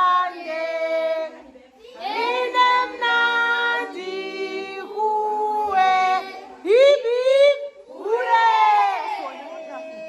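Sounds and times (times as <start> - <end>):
children and women singing: 0.0 - 9.2.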